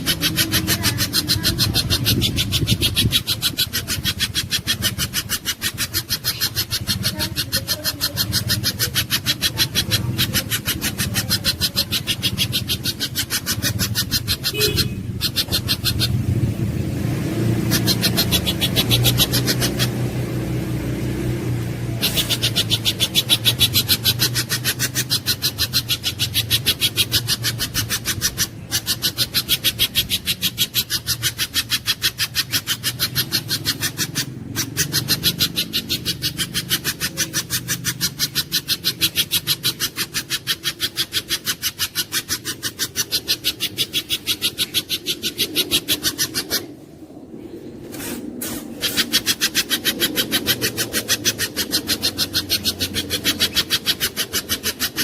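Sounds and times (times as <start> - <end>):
bird chipping calls: 0.0 - 55.0
steady low hum: 0.0 - 55.0.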